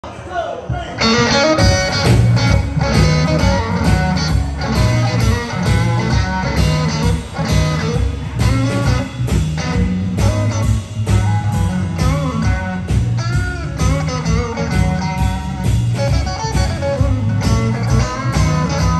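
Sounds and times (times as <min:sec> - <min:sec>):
drum kit beat: 0:00.8 - 0:18.9
electric bass: 0:01.0 - 0:18.9
electric guitar: 0:01.0 - 0:18.9.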